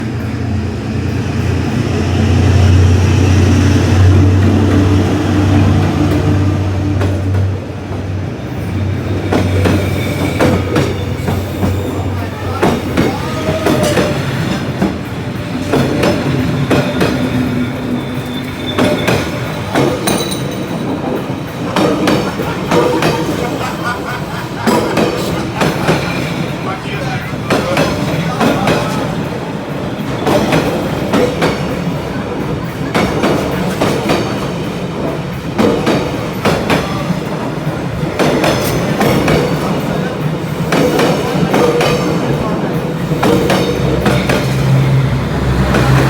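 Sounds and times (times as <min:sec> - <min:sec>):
train rumble: 0:00.0 - 0:46.0
train wheels clicking on rails: 0:00.0 - 0:46.0.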